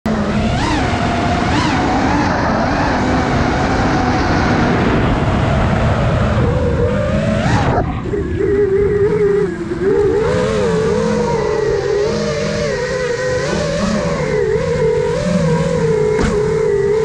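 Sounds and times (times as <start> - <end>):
drone propellers whining: 0.1 - 17.0.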